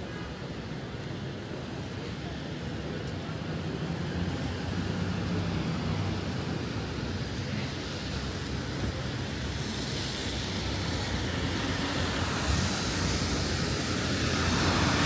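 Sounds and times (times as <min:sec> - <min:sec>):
traffic hiss in rain: 0:00.0 - 0:15.0.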